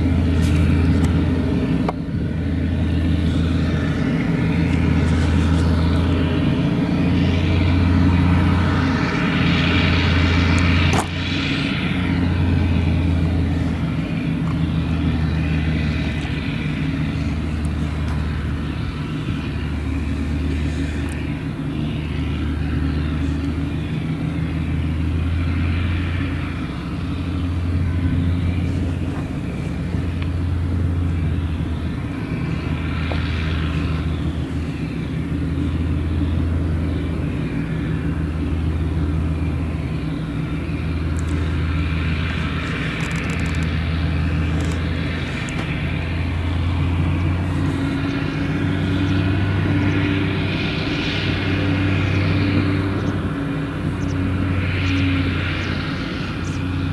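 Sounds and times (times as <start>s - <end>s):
harvester engine drone: 0.0s - 56.9s.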